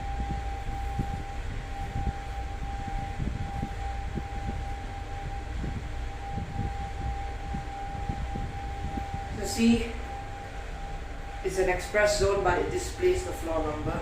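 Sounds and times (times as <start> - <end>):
lift high whine: 0.0 - 14.0
low rumble: 0.0 - 14.0.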